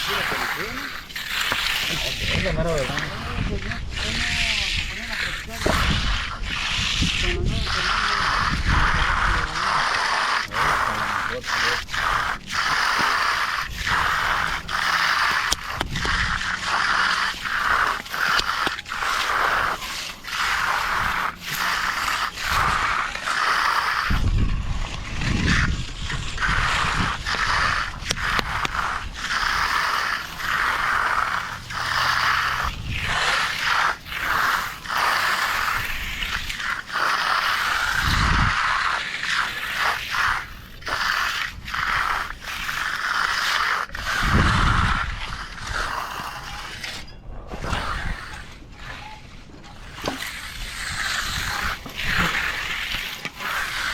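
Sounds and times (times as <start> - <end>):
tool scraping wet concrete: 0.0 - 53.9.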